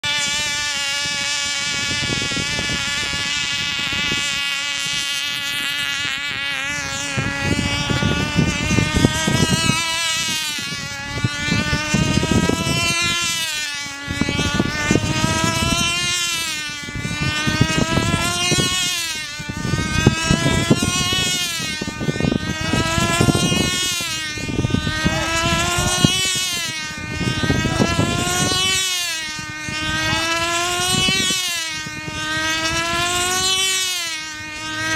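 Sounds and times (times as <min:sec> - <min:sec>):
model aircraft engine whine: 0:00.0 - 0:34.9.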